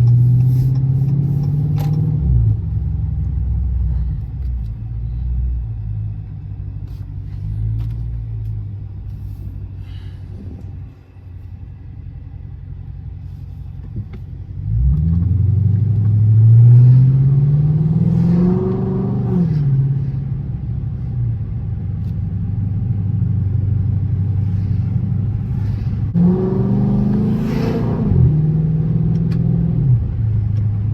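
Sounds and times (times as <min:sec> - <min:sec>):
car engine accelerating: 0:00.0 - 0:10.8, 0:12.1 - 0:30.9.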